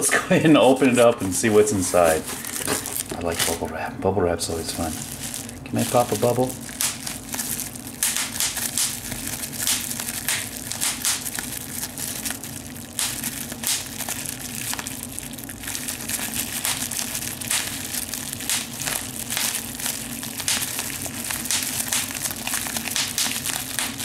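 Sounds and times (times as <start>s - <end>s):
bubble wrap popping: 0.6s - 3.7s, 4.5s - 24.0s
plastic crinkling: 0.6s - 3.8s, 4.4s - 24.0s.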